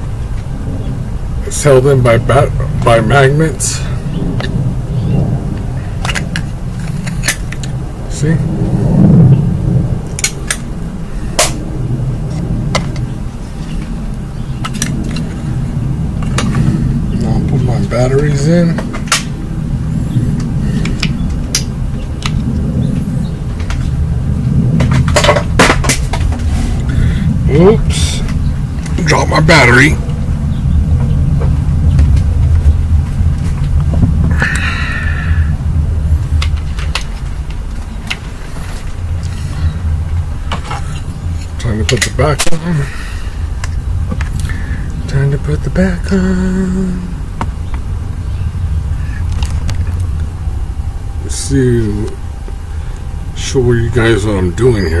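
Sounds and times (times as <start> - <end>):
low rumble: 0.0 - 55.0
steady low hum: 0.0 - 55.0.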